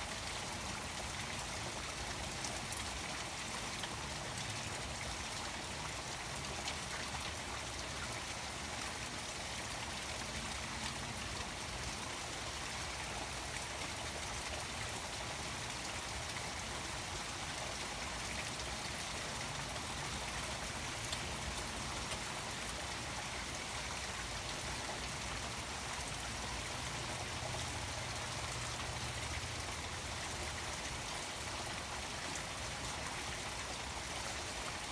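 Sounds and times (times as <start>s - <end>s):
rain pattering on pond water: 0.0s - 34.9s.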